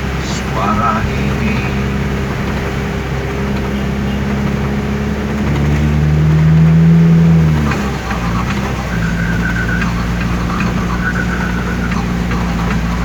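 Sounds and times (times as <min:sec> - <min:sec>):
motor engine running: 0:00.0 - 0:13.0.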